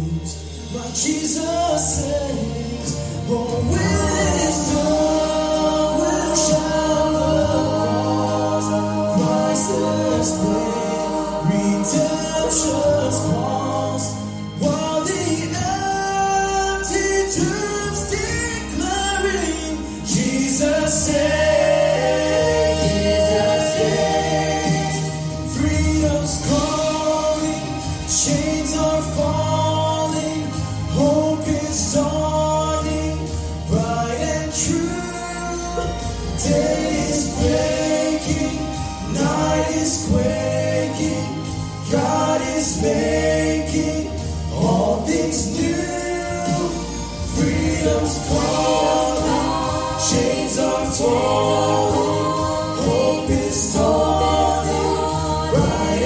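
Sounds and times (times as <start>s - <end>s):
group singing gospel song: 0.0s - 56.0s.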